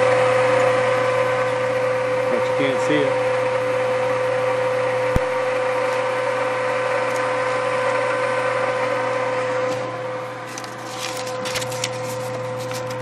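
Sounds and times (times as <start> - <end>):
electric blower whining: 0.0 - 13.0.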